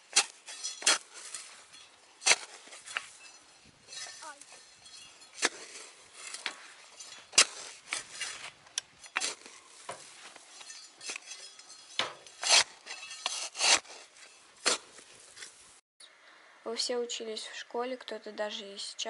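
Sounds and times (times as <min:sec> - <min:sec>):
plastic rake scraping dry grass: 0:00.0 - 0:15.6.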